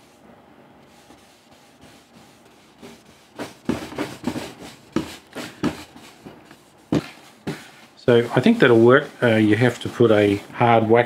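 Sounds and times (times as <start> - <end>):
cloth rag wiping wood: 0.0 - 0.2, 0.9 - 11.0.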